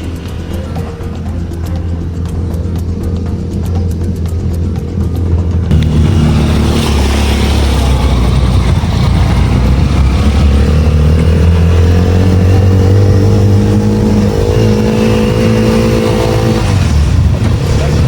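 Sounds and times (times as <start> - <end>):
vehicle engine rumbling on rough road: 0.0 - 18.0.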